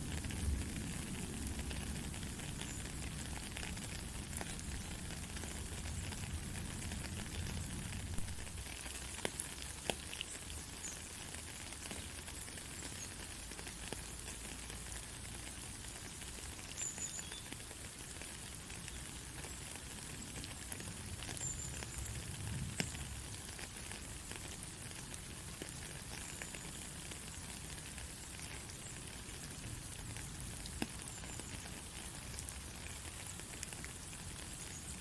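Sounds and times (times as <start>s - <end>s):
steady rain hiss: 0.0s - 35.0s
raindrops ticking sharply: 0.1s - 35.0s.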